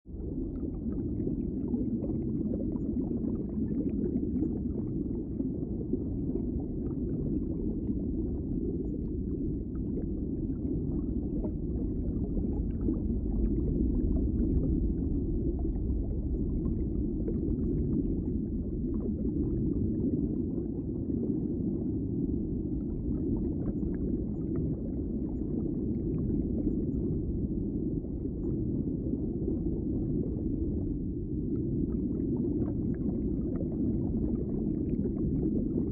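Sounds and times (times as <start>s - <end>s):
muffled underwater rumble: 0.0s - 35.9s.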